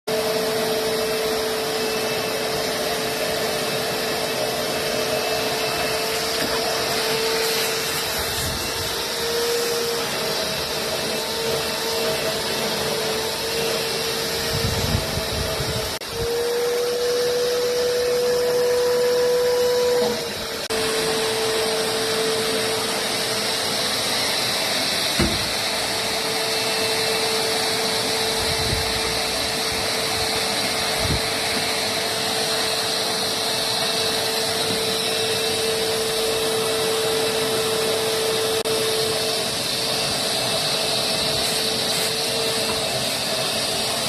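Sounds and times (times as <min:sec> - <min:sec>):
vacuum cleaner whining: 0:00.0 - 0:44.0.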